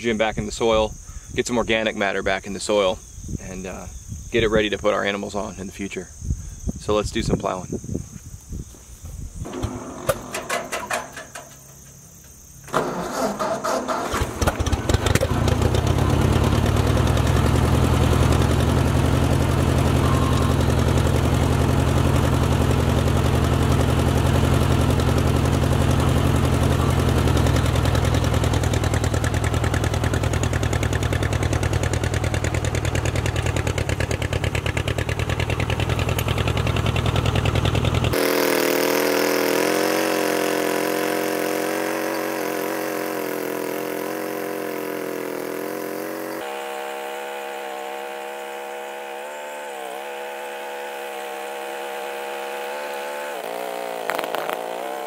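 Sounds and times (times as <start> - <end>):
tractor engine starting and running: 9.4 - 55.0.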